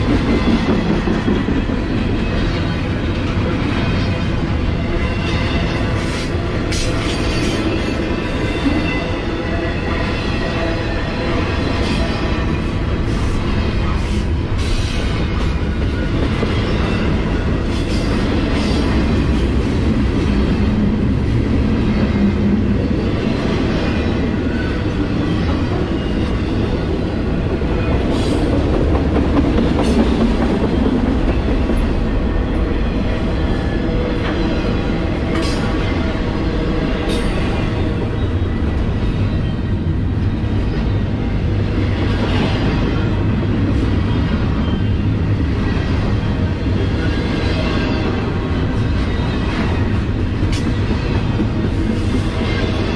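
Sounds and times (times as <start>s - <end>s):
steel wheels rumbling on rail: 0.0s - 52.9s.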